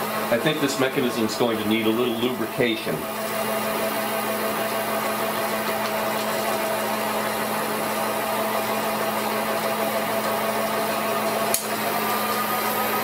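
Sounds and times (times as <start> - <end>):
film projector motor humming: 0.0 - 13.0.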